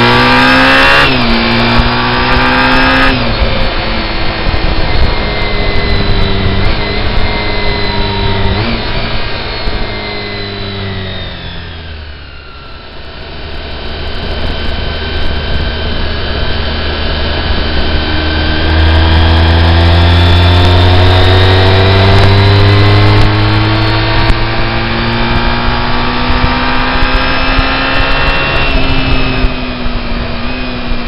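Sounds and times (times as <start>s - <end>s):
road and wind noise: 0.0s - 31.0s
vehicle engine: 0.0s - 31.0s.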